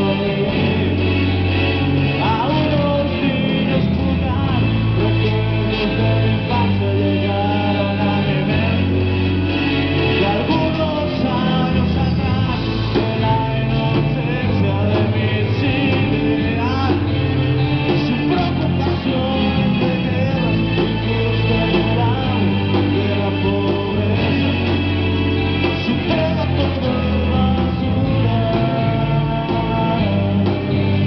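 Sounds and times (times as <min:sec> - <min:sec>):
man singing: 0:00.0 - 0:31.0
rock band playing: 0:00.0 - 0:31.0.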